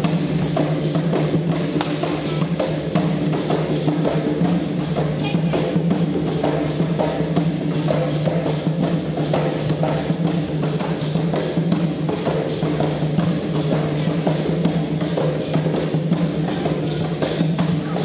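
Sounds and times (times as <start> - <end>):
hand drums beating: 0.0 - 18.0.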